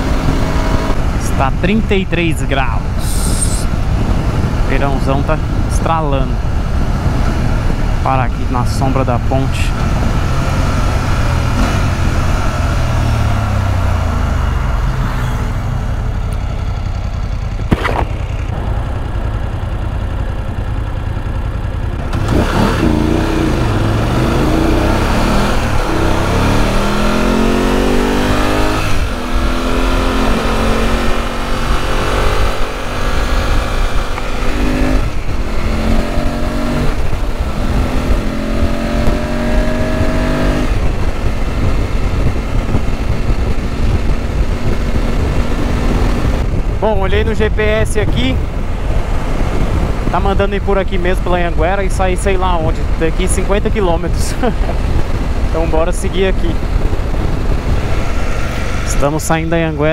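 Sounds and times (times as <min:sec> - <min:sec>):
wind rush: 0:00.0 - 0:16.2, 0:23.6 - 0:59.9
motorcycle engine accelerating: 0:00.0 - 0:59.9.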